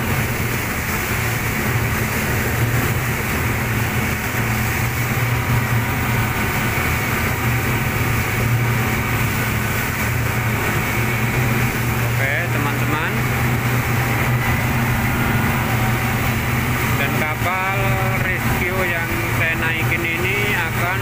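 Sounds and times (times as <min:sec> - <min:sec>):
churning wake water: 0:00.0 - 0:21.0
outboard engine running: 0:00.0 - 0:21.0
wind: 0:00.0 - 0:21.0.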